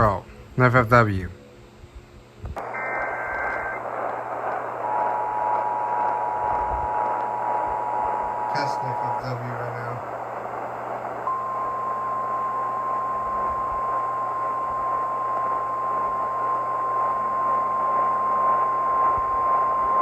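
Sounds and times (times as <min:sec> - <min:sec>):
radio static hiss: 0:00.0 - 0:01.5, 0:02.4 - 0:20.0.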